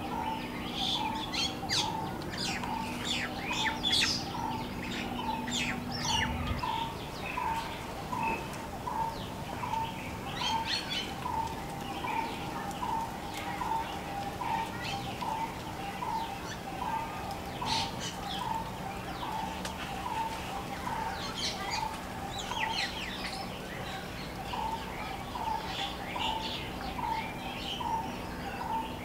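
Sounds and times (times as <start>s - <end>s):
birds chirping and twittering: 0.0s - 29.0s
low steady hum: 0.0s - 29.0s.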